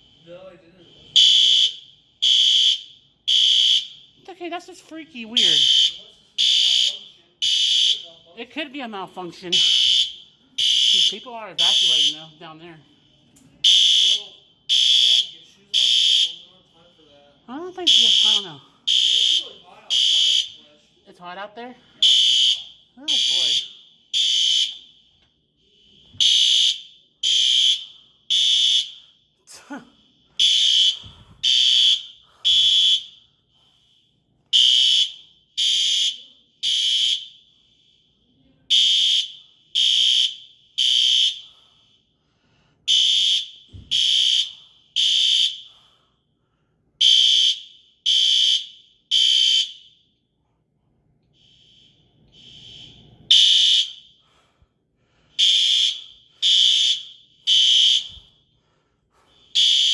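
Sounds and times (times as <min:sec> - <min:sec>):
fire alarm triple beeps: 0:00.0 - 0:16.7, 0:17.5 - 0:29.4, 0:30.3 - 0:41.7, 0:42.9 - 0:46.0, 0:47.0 - 0:50.2, 0:51.3 - 0:54.3, 0:55.4 - 0:58.5, 0:59.5 - 0:59.9.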